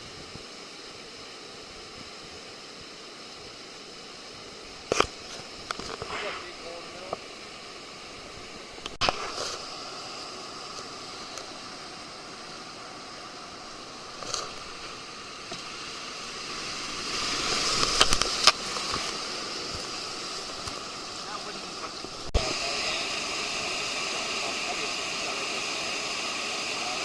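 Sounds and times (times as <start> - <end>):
river water rushing: 3.7 - 27.0
water splashes: 4.7 - 27.0.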